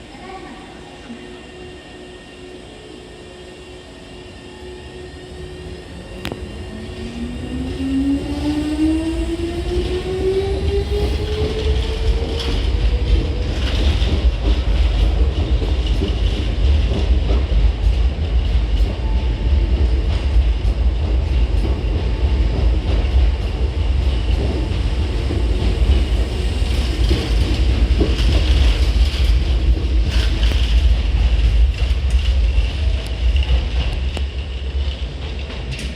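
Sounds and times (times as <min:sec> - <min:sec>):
electric train rumbling: 0:00.0 - 0:35.9
clickety-clack of train wheels: 0:06.1 - 0:35.9.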